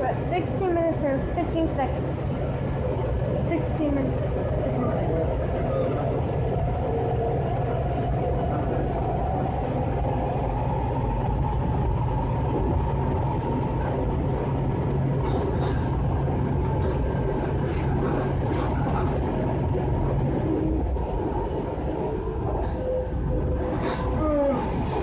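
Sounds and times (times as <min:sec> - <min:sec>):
steady low hum: 0:00.0 - 0:25.0
wheel and track rumble: 0:00.0 - 0:25.0.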